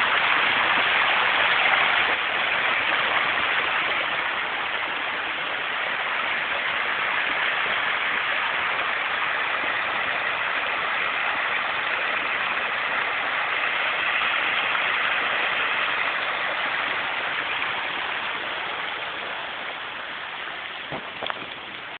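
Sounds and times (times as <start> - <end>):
heavy rain on a pond: 0.0 - 22.0.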